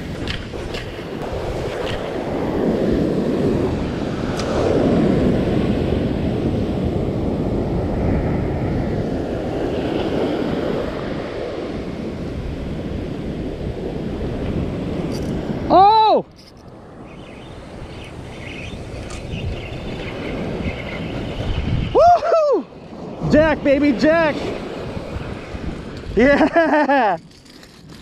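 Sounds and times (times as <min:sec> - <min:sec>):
ocean surf breaking on beach: 0:00.0 - 0:27.3
wind rumbling on microphone: 0:00.0 - 0:28.0.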